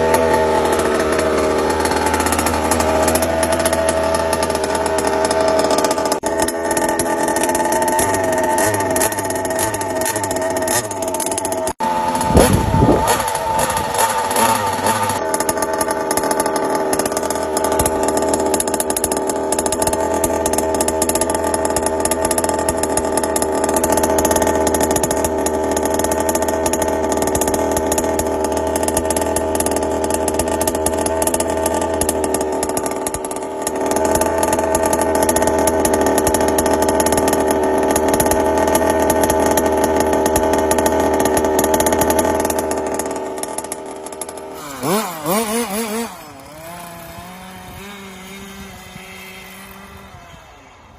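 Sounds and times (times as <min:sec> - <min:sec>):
small two-stroke engine running: 0:00.0 - 0:50.9.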